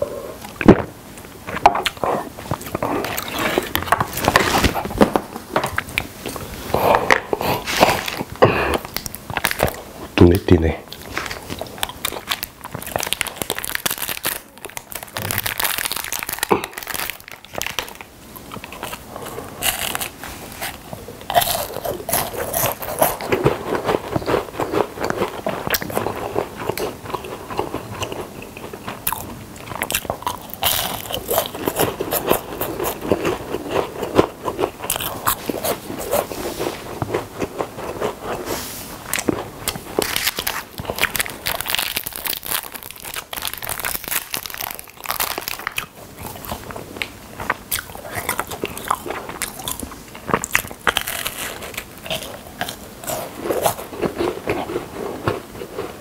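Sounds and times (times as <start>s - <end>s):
chewing crunchy snack bar: 5.7s - 56.0s.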